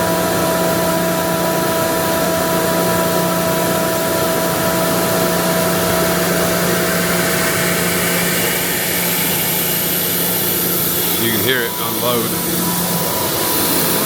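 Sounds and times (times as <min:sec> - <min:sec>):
air compressor humming and whining: 0:00.0 - 0:14.0.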